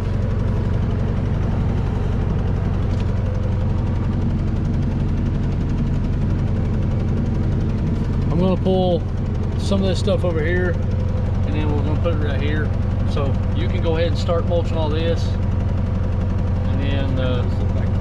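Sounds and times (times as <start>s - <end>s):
heavy diesel machinery droning: 0.0s - 18.0s.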